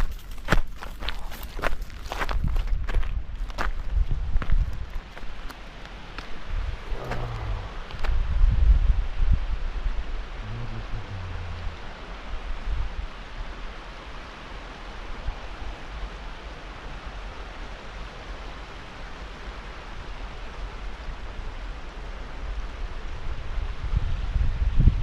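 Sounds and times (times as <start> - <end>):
wind rumbling on microphone: 0.0 - 17.2, 20.1 - 25.0
steady rushing outdoor noise: 0.0 - 25.0.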